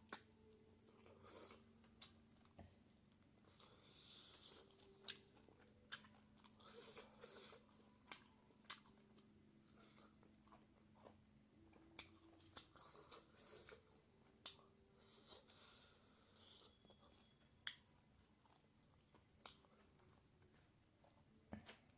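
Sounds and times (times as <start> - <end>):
person chewing: 0.1 - 2.7, 3.4 - 21.9.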